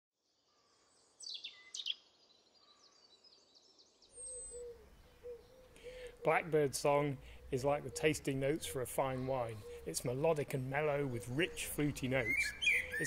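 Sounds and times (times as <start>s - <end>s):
robin singing: 0.5s - 13.0s.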